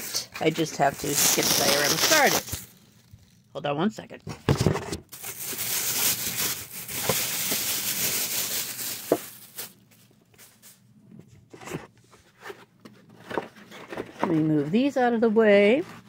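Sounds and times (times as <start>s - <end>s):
rustling handling noise: 0.0s - 3.5s, 4.4s - 16.0s.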